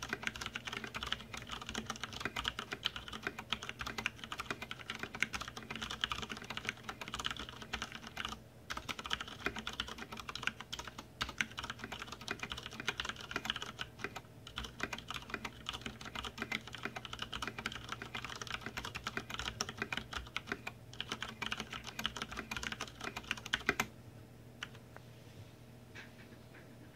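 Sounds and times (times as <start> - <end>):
fast typing on mechanical keyboard: 0.0 - 23.9.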